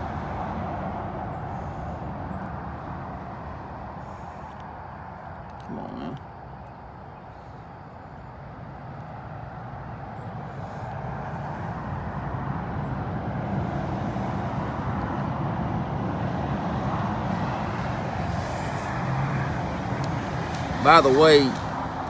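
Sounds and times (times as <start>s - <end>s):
motor vehicle rumble: 0.0s - 22.0s.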